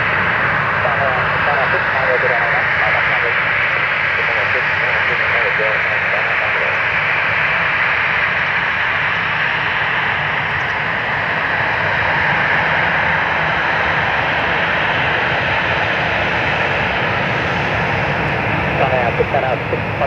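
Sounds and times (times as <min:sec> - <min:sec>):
jet engines running at taxi power: 0:00.0 - 0:20.0.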